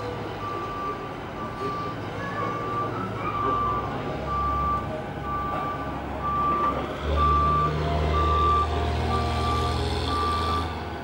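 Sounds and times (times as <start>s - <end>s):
reversing alarm beeping: 0.0s - 10.8s
truck engine running: 0.0s - 11.0s.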